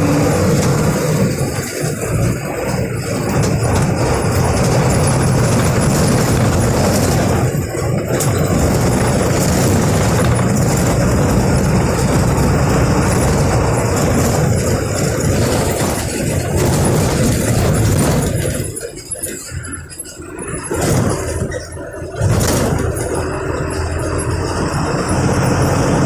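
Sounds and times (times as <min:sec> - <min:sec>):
diesel bus engine running: 0:00.0 - 0:26.0.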